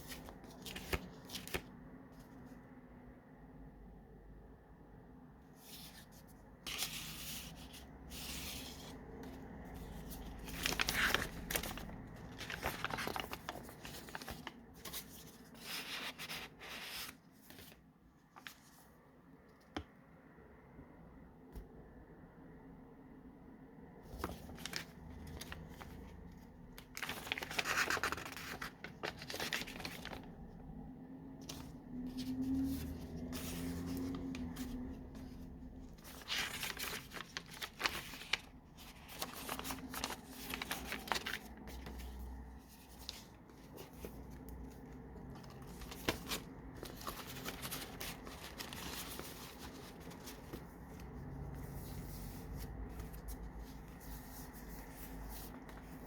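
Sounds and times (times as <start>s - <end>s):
paper pages rustling: 0.0s - 2.4s, 5.5s - 19.0s, 24.0s - 30.5s, 31.4s - 56.0s.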